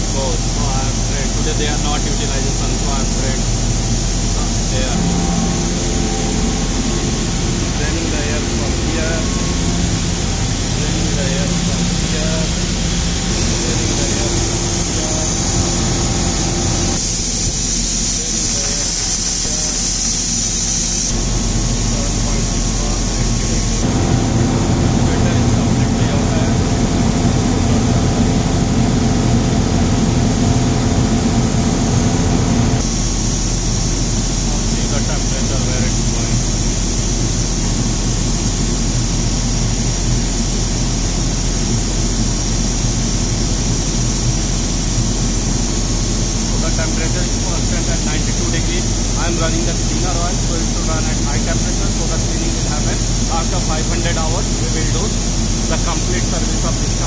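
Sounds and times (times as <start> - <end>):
air compressor running: 0.0 - 57.0
compressed air hissing: 0.0 - 57.0.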